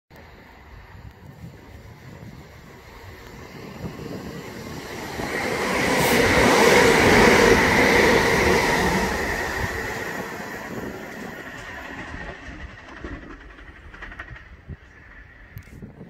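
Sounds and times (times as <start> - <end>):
electric train passing at speed: 0.1 - 16.0.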